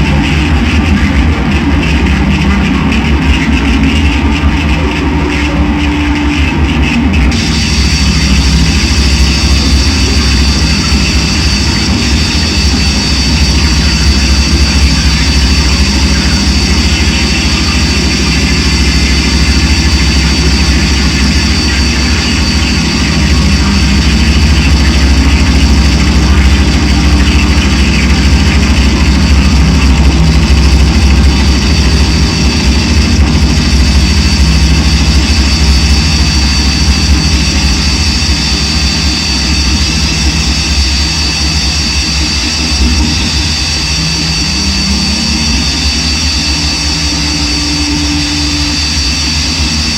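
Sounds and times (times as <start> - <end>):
electronic drone music: 0.0 - 49.9.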